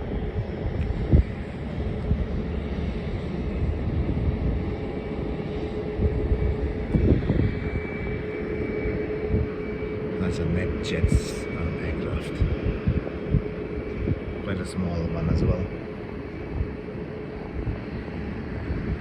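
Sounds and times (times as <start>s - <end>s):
jet engine whine: 0.0s - 19.0s
wind buffeting microphone: 0.0s - 19.0s.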